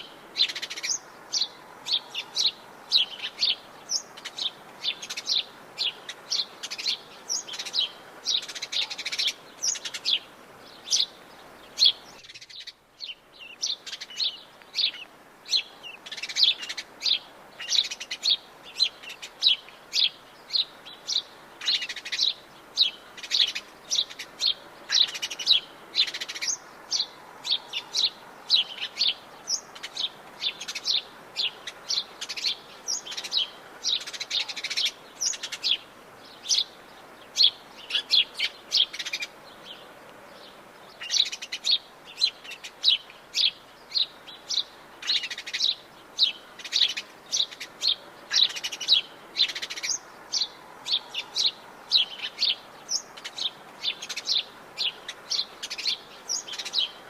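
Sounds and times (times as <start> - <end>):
birds chirping and twittering: 0.0 - 57.0
steady background hiss: 0.0 - 57.0.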